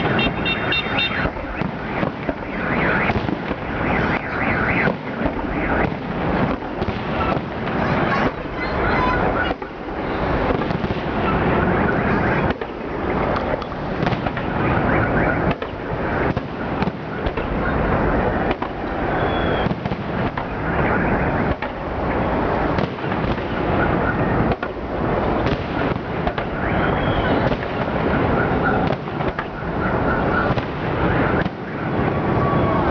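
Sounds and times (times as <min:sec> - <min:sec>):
fireworks bangs and crackle: 0:00.0 - 0:32.9.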